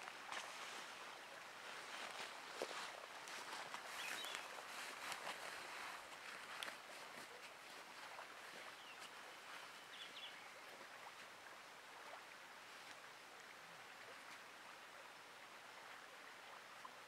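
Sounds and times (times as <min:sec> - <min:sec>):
faint outdoor river hiss: 0:00.0 - 0:17.0.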